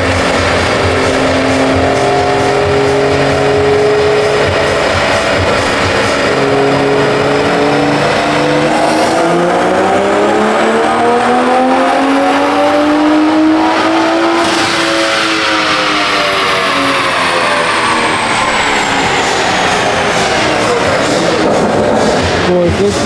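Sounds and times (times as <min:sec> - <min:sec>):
car engine revving under load: 0:00.0 - 0:23.0.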